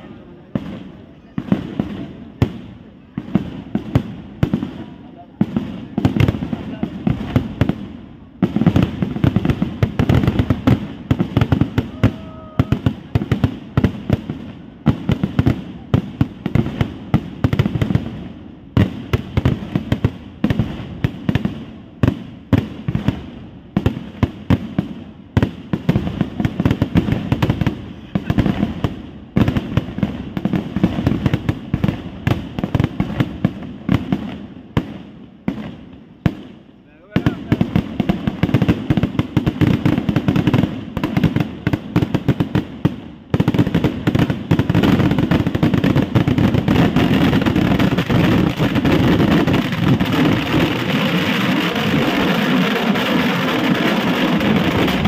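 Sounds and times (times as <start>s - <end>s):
firework bangs and crackles: 0.0s - 55.0s.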